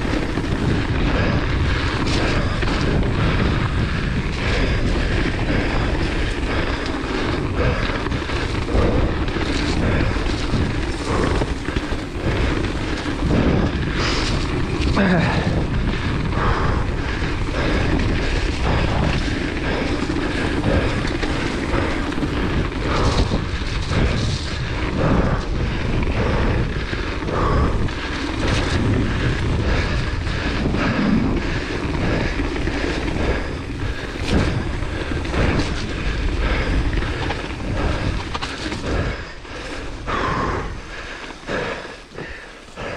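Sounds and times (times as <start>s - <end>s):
bike knocks and rattles: 0.0s - 39.6s
tyres rolling on dirt: 0.0s - 42.9s
wind on microphone: 0.0s - 42.9s.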